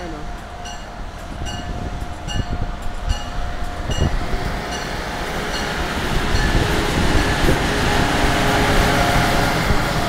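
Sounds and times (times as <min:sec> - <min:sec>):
train bell ringing: 0:00.0 - 0:08.9
train wheels rumbling on rails: 0:00.0 - 0:10.0.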